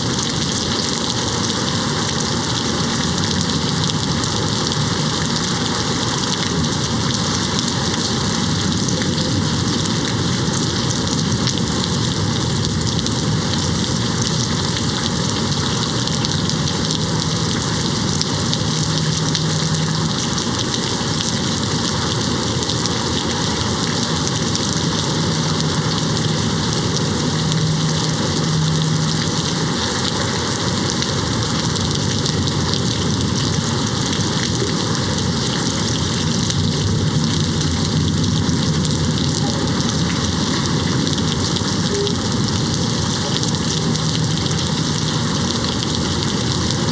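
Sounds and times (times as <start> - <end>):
rain hitting a window: 0.0 - 46.9.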